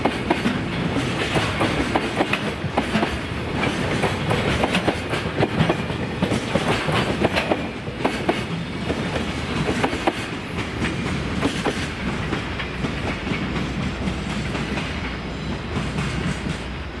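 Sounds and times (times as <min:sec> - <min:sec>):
train wheels clacking over rail joints: 0:00.0 - 0:16.9
train rumble: 0:00.0 - 0:17.0.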